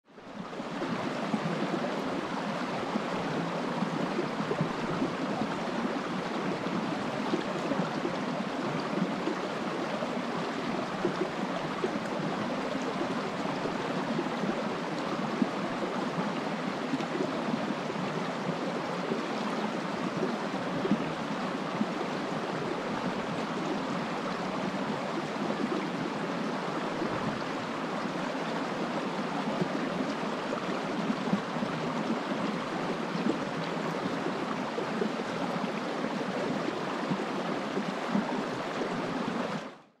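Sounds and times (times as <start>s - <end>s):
stream flowing over stones: 0.2s - 39.8s.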